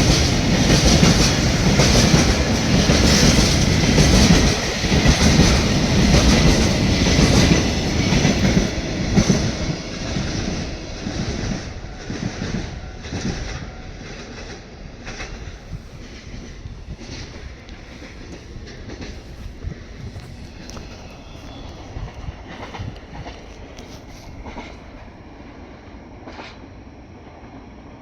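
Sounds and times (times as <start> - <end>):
freight train wheels clacking: 0.0 - 27.4.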